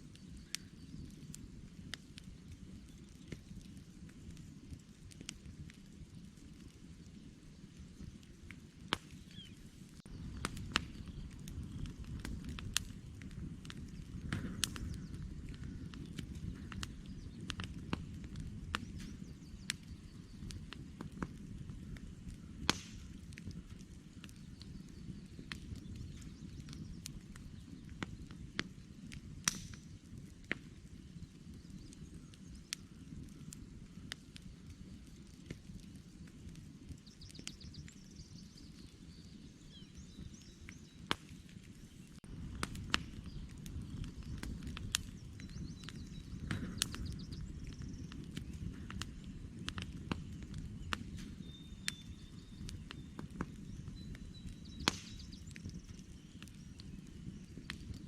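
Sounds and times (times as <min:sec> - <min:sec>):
campfire crackling and popping: 0:00.0 - 0:58.0
birds chirping faintly: 0:06.6 - 0:58.0.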